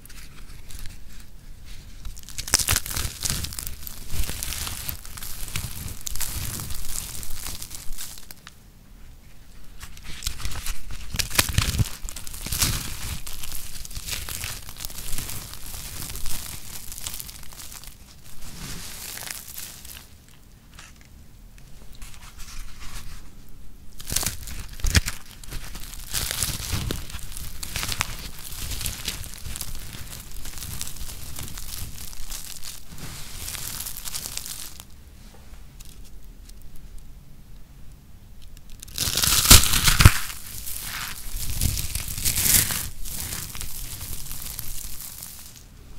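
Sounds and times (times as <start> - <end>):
dry soap crackling and crumpling: 0.0 - 8.6, 9.2 - 37.1, 38.3 - 45.9.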